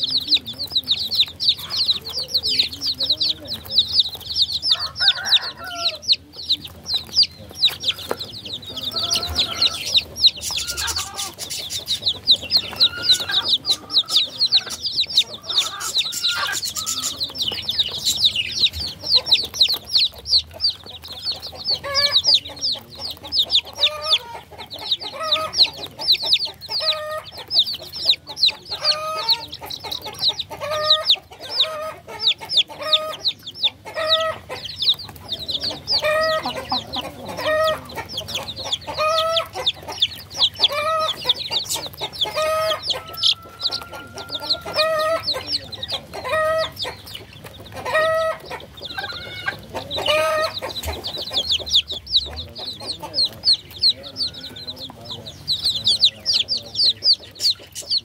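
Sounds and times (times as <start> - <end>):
baby chicks peeping: 0.0 - 58.0.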